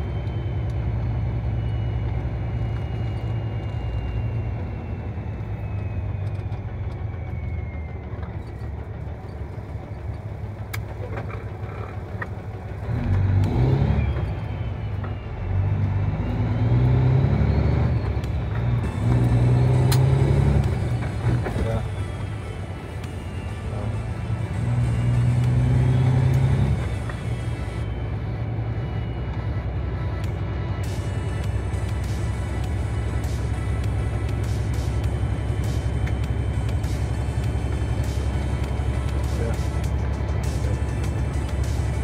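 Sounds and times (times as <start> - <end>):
bass-heavy music: 0.0 - 42.0.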